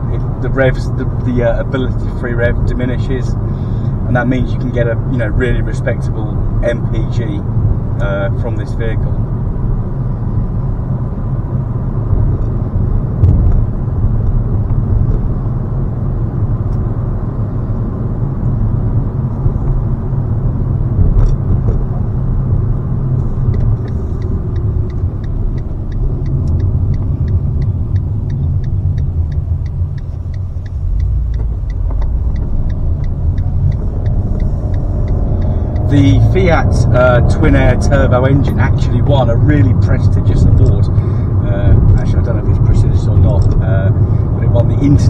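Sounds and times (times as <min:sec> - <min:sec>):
car engine and road noise rumble: 0:00.0 - 0:45.0
turn signal ticking: 0:00.0 - 0:45.0.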